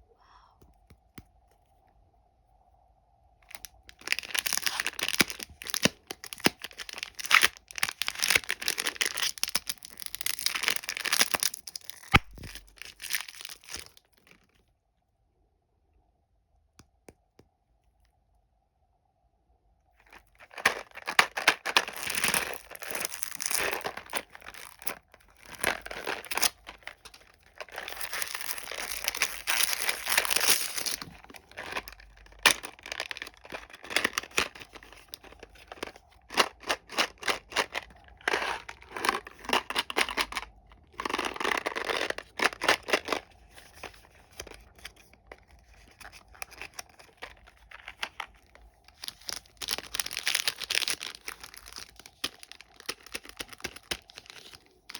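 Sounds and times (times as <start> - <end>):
candy wrappers crinkling: 3.4 - 14.6, 20.0 - 54.9.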